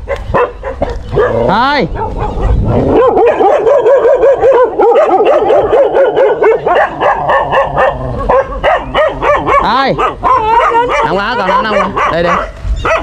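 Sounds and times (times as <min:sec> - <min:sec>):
dogs barking fiercely: 0:00.0 - 0:13.0.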